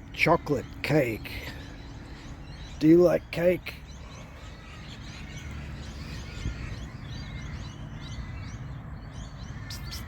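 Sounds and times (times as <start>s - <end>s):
birds chirping: 0.0s - 10.0s
low outdoor rumble: 0.0s - 10.0s.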